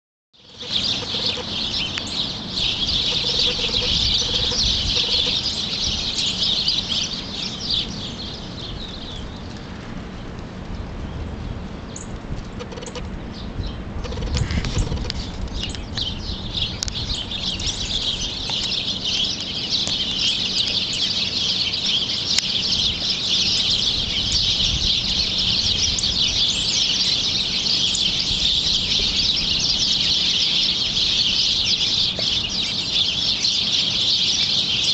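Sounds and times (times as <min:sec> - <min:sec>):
small birds chirping: 0:00.4 - 0:34.9.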